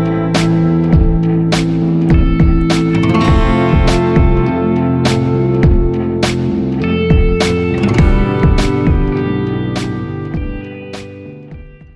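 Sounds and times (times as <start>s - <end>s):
held chords: 0.0s - 11.9s
steady drum beat: 0.4s - 11.9s.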